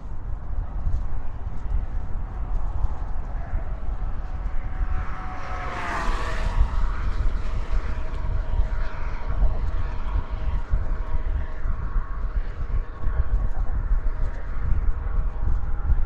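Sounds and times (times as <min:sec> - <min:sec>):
low traffic rumble: 0:00.0 - 0:16.0
vehicle passing by: 0:00.7 - 0:16.0.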